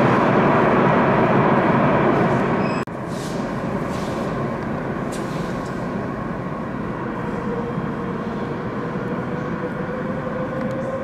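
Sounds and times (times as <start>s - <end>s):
train rumbling with motor whine: 0.0s - 11.0s.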